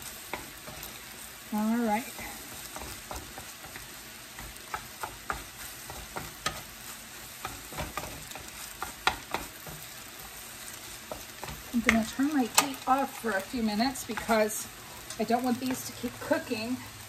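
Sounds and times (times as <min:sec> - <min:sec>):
spatula scraping a pan: 0:00.0 - 0:16.8
food sizzling in a wok: 0:00.0 - 0:17.0.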